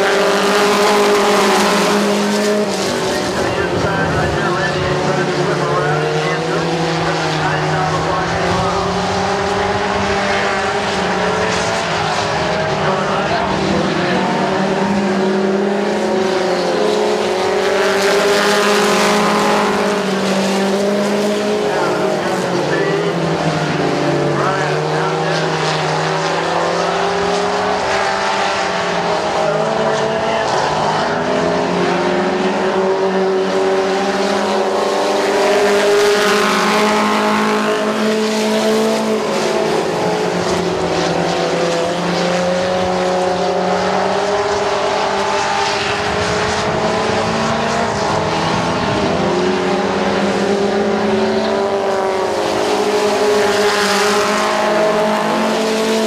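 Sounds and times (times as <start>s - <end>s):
race truck engines running hard: 0.0s - 56.0s.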